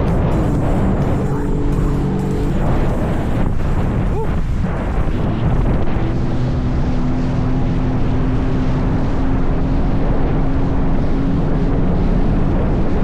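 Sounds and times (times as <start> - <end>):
jet ski engine running: 0.0 - 13.0
wind on microphone: 0.0 - 13.0.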